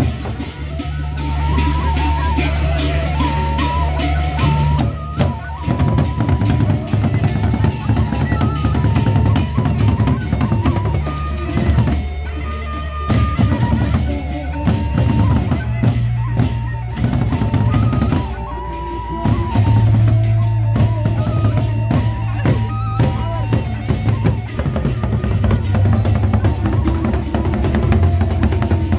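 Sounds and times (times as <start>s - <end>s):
barrel drums beaten fast: 0.0s - 28.9s
cymbals clashing: 0.0s - 28.9s.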